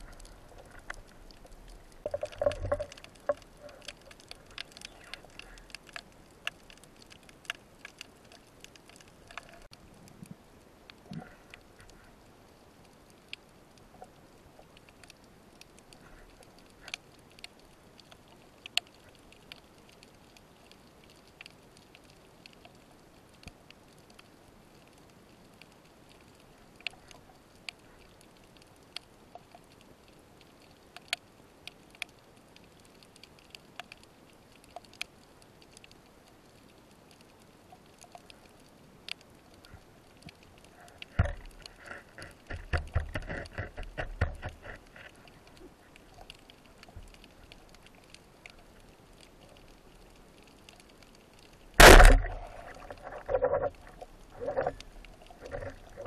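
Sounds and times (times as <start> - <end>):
faint steady underwater hiss: 0.0 - 56.0.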